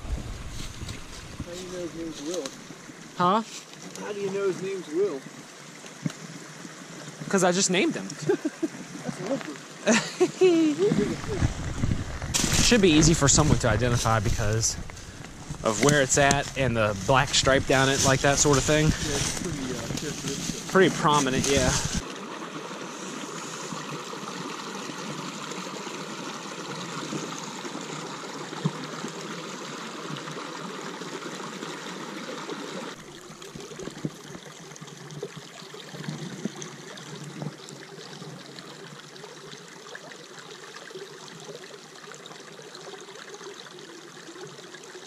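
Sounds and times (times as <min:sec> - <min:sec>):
stream trickling over rocks: 0:00.0 - 0:45.0.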